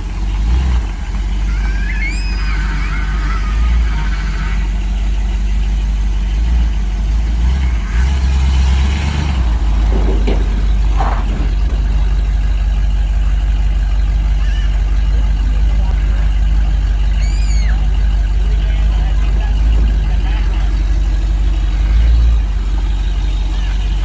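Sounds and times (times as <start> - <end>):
truck engine low rumble: 0.0 - 24.0.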